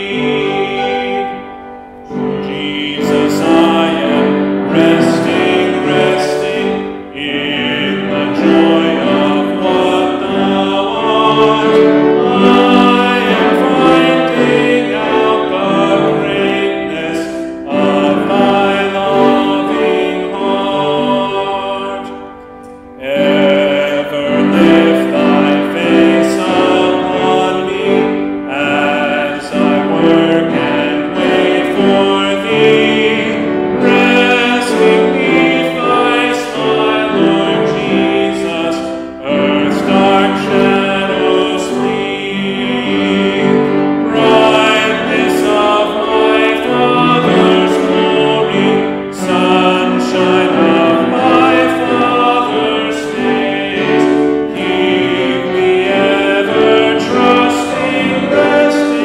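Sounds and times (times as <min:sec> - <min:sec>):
man singing a hymn operatically: 0:00.0 - 0:22.4, 0:23.0 - 0:59.0.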